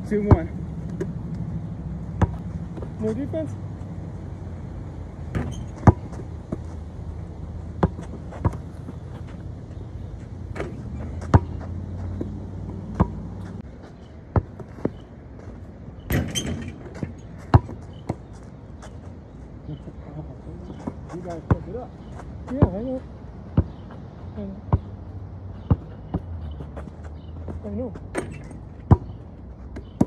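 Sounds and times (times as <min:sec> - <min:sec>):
basketball bouncing on dirt: 0:00.0 - 0:01.4, 0:02.1 - 0:03.5, 0:05.3 - 0:06.9, 0:07.6 - 0:19.0, 0:20.6 - 0:25.0, 0:25.6 - 0:30.0.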